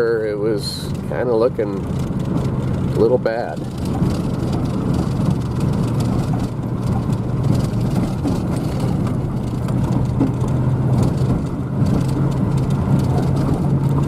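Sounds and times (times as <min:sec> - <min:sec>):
road and tyre noise: 0:00.0 - 0:14.0
vehicle engine humming: 0:00.0 - 0:14.0.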